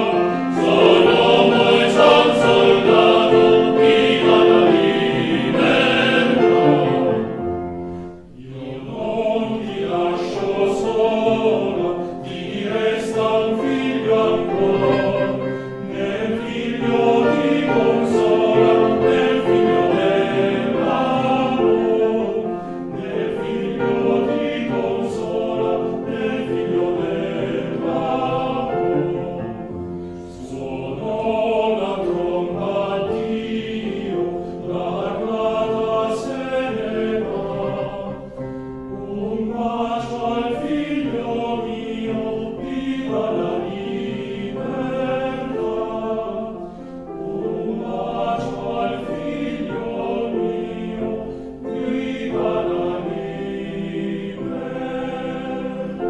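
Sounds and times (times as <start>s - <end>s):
choir singing held notes: 0.0s - 56.0s.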